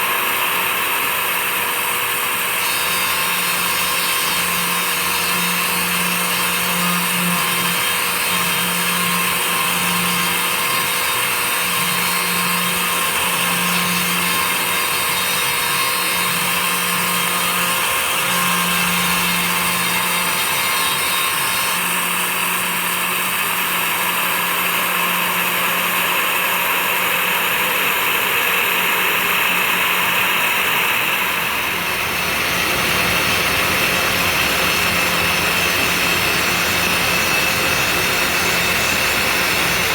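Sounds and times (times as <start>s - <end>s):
dust extraction vacuum: 0.0s - 39.9s
router spindle milling: 0.0s - 39.9s.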